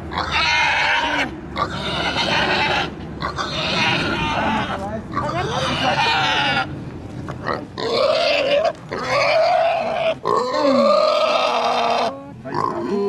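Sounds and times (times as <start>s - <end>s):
young pig squealing: 0.1s - 6.7s, 7.5s - 13.0s.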